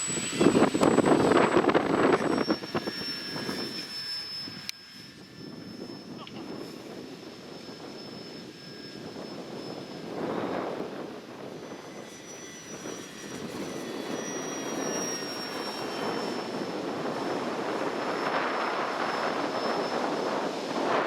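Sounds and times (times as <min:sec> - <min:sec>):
model airplane motor whining: 0:00.0 - 0:21.0
wind noise on microphone: 0:00.0 - 0:21.0.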